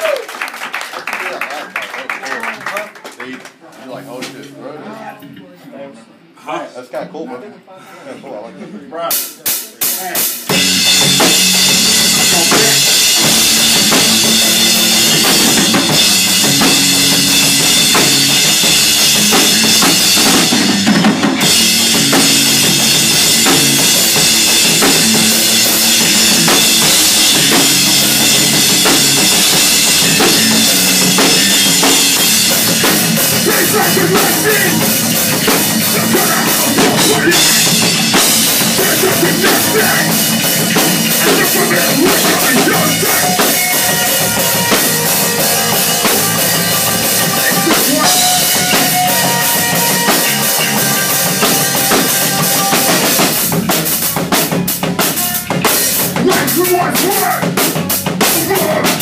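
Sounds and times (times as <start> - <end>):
fast drum kit: 9.1 - 59.0
loud hardcore band playing: 9.1 - 59.0.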